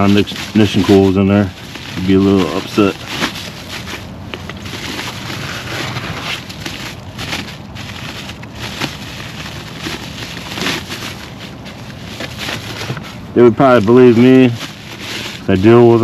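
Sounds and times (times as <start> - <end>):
rustling and scraping of packaging: 0.0 - 16.0.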